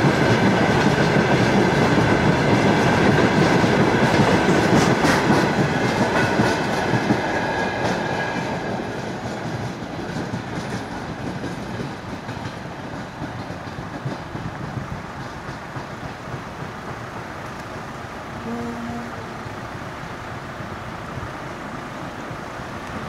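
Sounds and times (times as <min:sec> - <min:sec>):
wheels clicking over rail joints: 0:00.0 - 0:18.6
freight train rolling past: 0:00.0 - 0:23.0.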